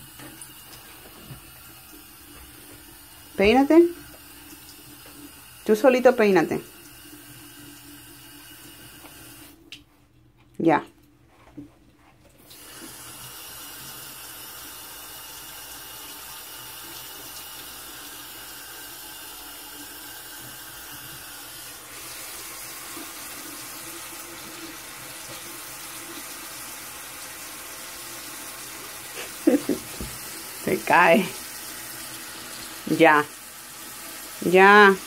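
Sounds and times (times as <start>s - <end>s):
water running into sink: 0.0s - 9.8s, 12.4s - 35.0s.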